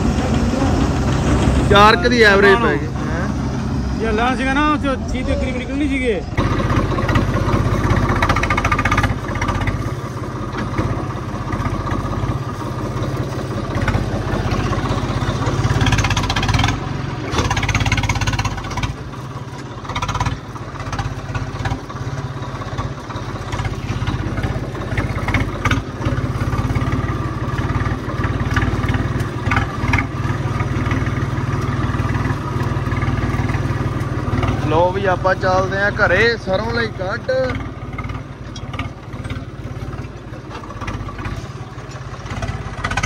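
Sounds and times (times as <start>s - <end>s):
tractor diesel engine running: 0.0s - 43.0s
rattles and clicks: 6.4s - 34.7s, 36.0s - 43.0s.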